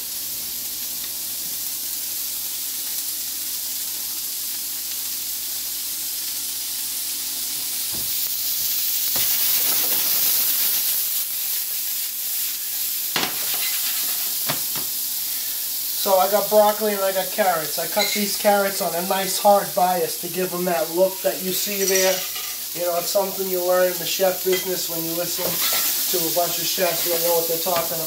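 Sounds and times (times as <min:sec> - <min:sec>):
vegetables sizzling in skillet: 0:00.0 - 0:28.0.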